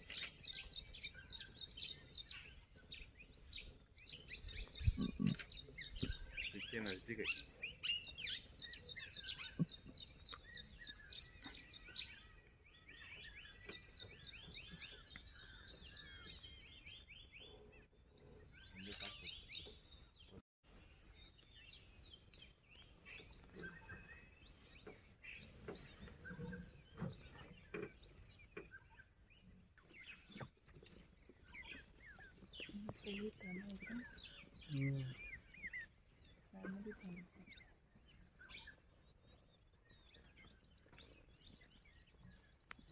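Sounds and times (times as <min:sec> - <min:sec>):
bird calls and chirps: 0:00.0 - 0:42.9
birds singing high repeated notes: 0:00.0 - 0:42.9
lower bird song series: 0:00.0 - 0:42.9.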